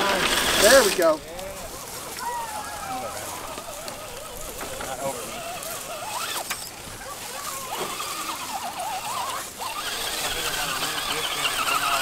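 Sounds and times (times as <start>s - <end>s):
toy truck motor whining: 0.0s - 12.0s.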